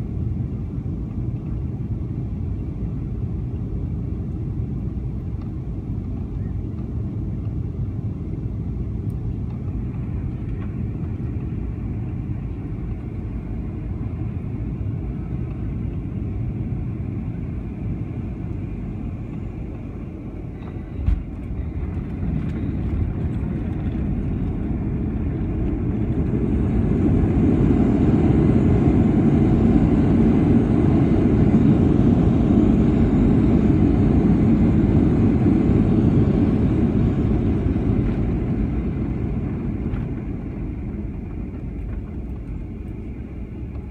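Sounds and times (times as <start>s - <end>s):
aircraft cabin rumble: 0.0s - 43.9s.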